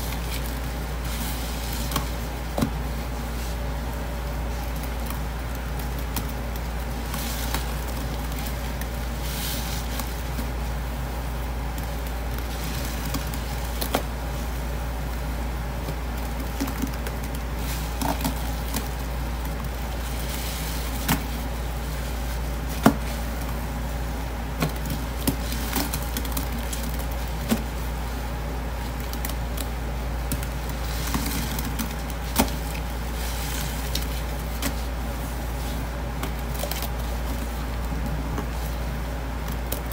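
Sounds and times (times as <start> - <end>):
sponge squelching: 0.0 - 39.9
steady low hum: 0.0 - 39.9.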